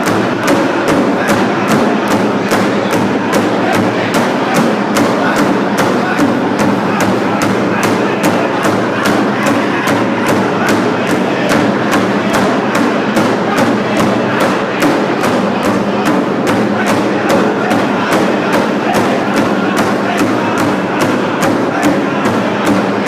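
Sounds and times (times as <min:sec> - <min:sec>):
drum group singing: 0:00.0 - 0:23.0
large hand drum beat: 0:00.0 - 0:23.0.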